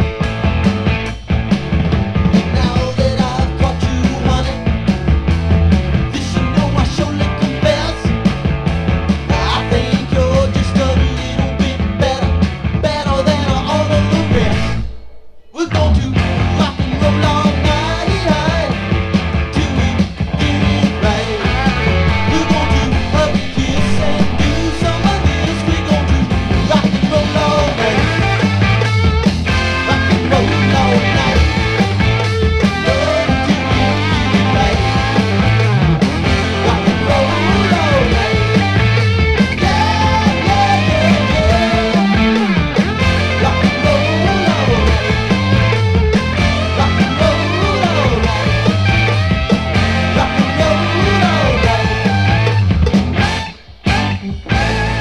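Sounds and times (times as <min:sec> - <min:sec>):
bass line gliding upward: 0:00.0 - 0:17.8, 0:19.5 - 0:55.0
rock song with singing: 0:00.0 - 0:55.0.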